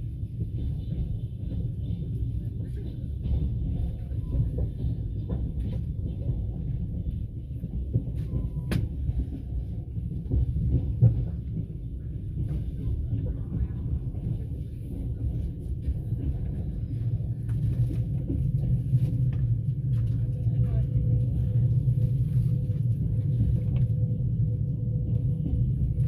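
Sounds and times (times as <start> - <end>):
train rumbling along track: 0.0 - 26.0.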